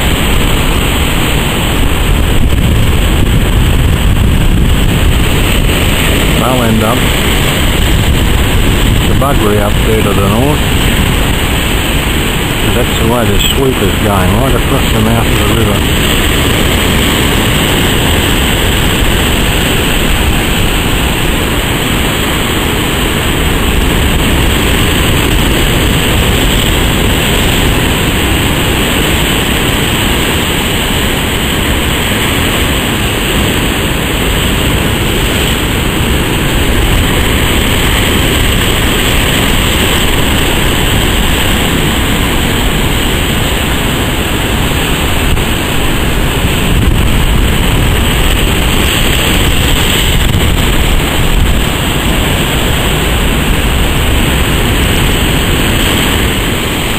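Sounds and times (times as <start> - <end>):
waves breaking over rocks: 0.0 - 56.9.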